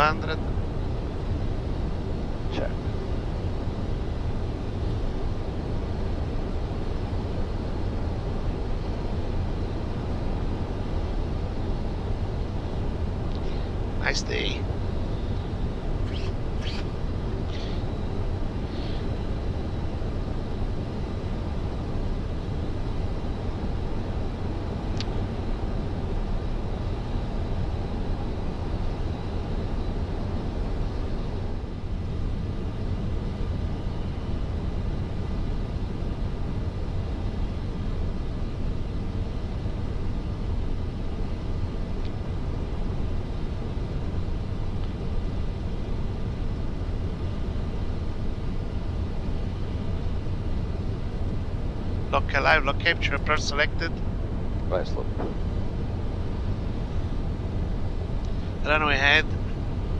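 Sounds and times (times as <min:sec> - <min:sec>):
airflow rush in cockpit: 0:00.0 - 0:59.9
faint high hum: 0:00.0 - 0:59.9.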